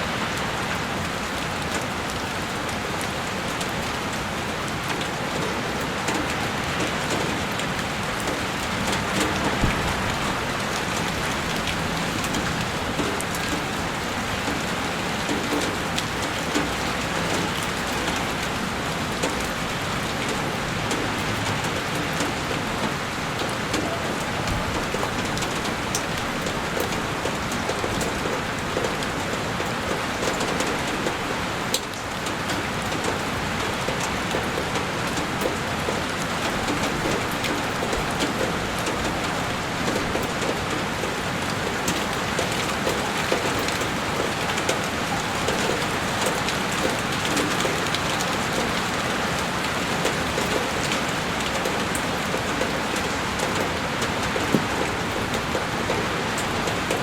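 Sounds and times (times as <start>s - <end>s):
heavy rain on a window: 0.0s - 57.0s.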